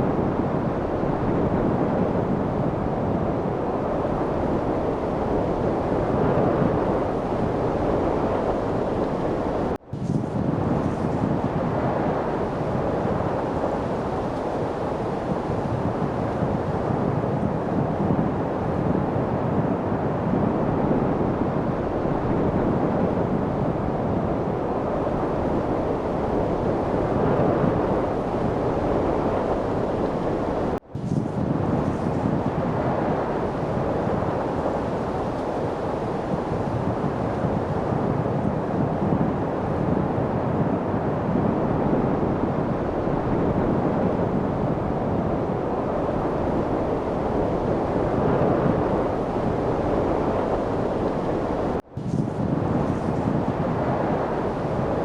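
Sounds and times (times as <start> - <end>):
steady wind rushing: 0.0 - 55.0.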